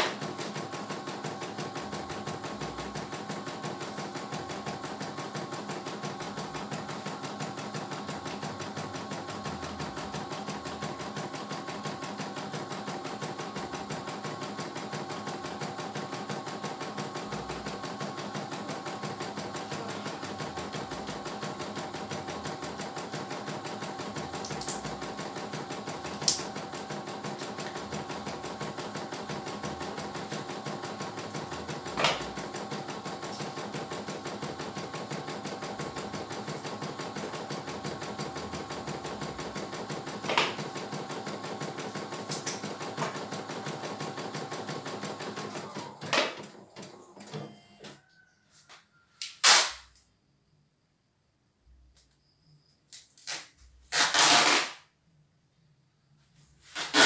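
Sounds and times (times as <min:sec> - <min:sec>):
embroidery machine stitching: 0:00.0 - 0:47.5, 0:53.9 - 0:54.8, 0:56.8 - 0:57.0.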